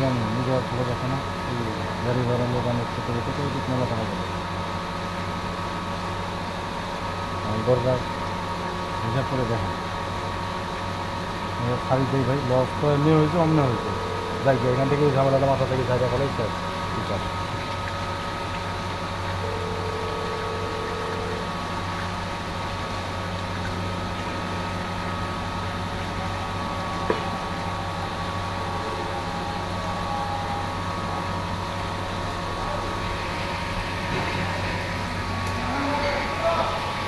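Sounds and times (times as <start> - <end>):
mechanical hum with held tones: 0.0 - 37.0.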